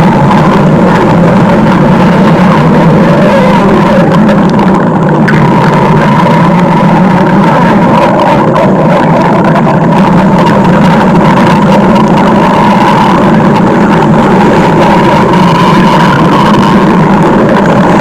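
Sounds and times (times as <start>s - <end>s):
stomach growl: 0.0s - 18.0s.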